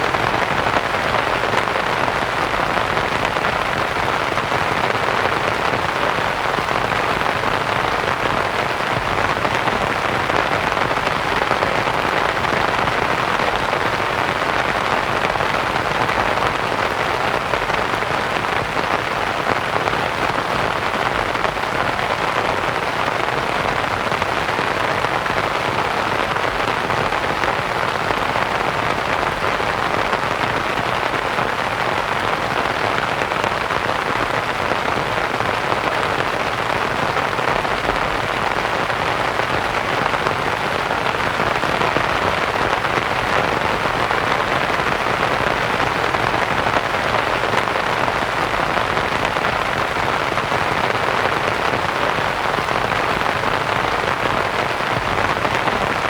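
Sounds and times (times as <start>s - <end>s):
rain on a canvas tent: 0.0s - 56.0s.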